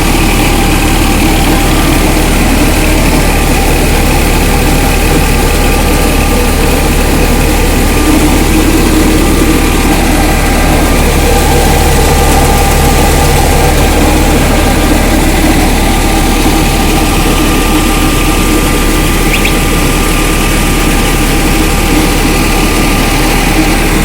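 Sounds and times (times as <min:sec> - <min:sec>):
rice mill machinery humming: 0:00.0 - 0:24.0.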